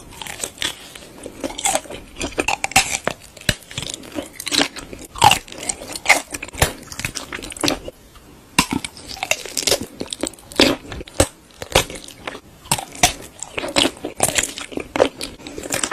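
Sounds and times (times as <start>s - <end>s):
chewing and crunchy bites: 0.0s - 8.0s, 8.6s - 15.9s.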